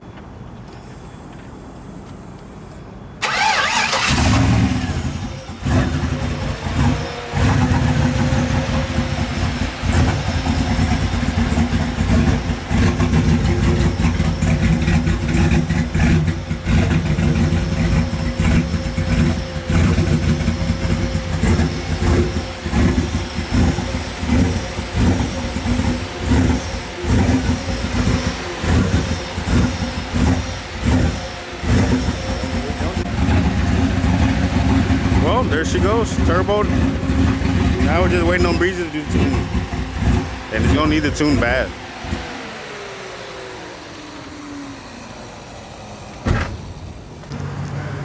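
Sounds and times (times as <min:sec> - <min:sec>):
truck engine cranking and starting: 0:00.1 - 0:48.0.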